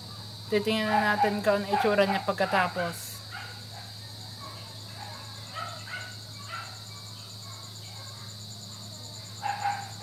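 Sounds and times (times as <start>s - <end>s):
faint distant voices: 0.0s - 10.0s.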